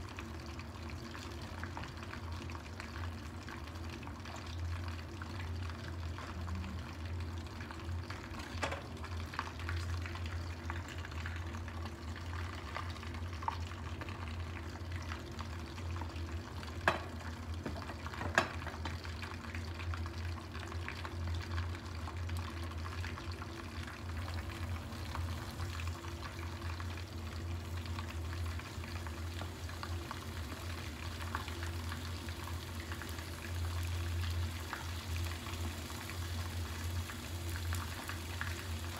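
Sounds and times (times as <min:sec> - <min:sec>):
eggs sizzling in a frying pan: 0:00.0 - 0:38.9.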